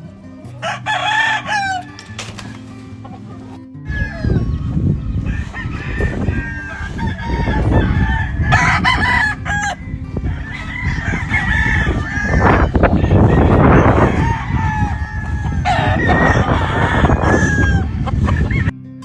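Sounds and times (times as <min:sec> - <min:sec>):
roosters crowing: 0:00.0 - 0:18.7.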